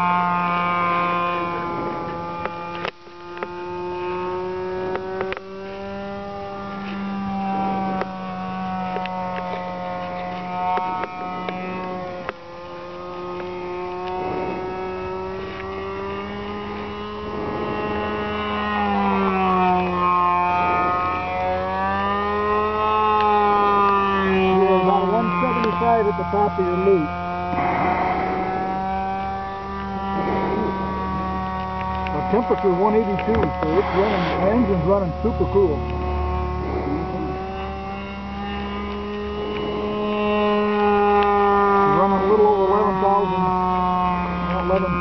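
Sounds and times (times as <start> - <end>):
model airplane engine buzzing: 0.0 - 45.0.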